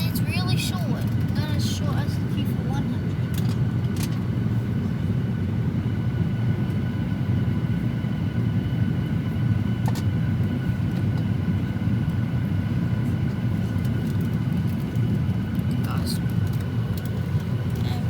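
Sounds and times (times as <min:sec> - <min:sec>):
airplane engine rumble in cabin: 0:00.0 - 0:18.0.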